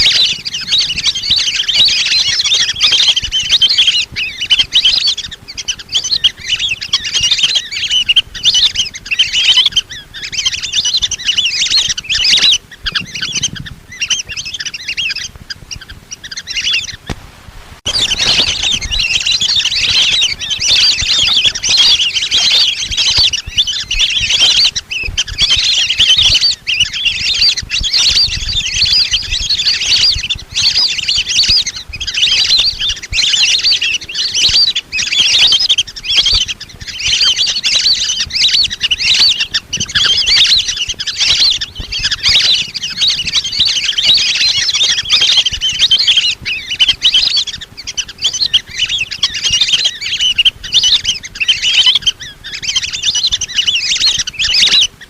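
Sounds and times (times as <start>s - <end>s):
whistling ducks calling: 0.0s - 17.2s, 17.8s - 55.0s.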